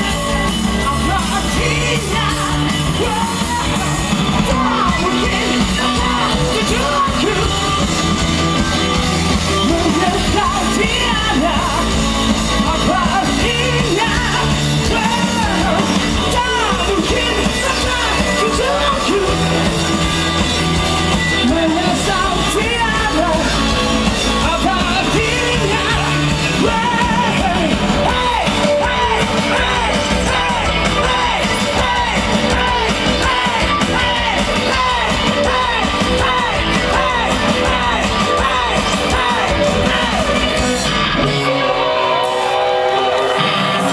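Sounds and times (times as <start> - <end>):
rock band playing: 0.0 - 43.9
singer singing and shouting: 0.0 - 43.9.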